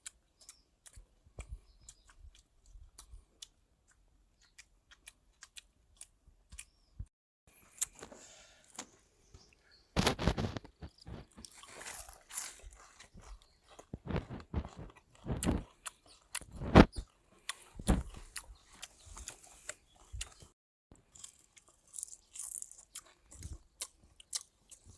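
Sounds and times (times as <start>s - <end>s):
chewing crunchy food: 0.0s - 6.9s, 7.5s - 24.9s.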